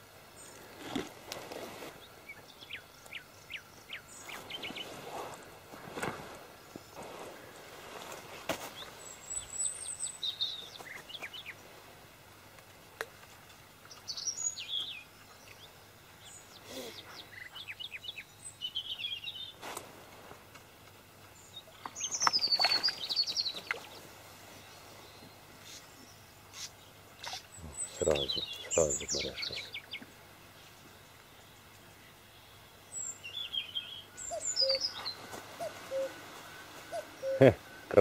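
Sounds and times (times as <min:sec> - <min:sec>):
small birds chirping: 0:00.3 - 0:11.9, 0:13.0 - 0:19.9, 0:20.8 - 0:38.0.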